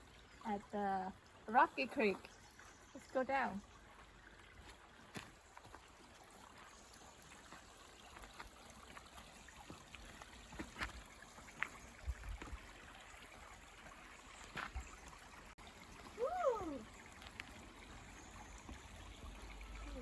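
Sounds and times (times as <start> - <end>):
creek trickling over rocks: 0.0 - 20.0.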